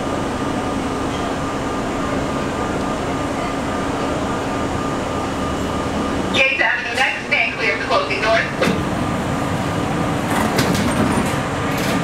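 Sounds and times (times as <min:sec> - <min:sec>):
subway train passing: 0:00.0 - 0:12.0.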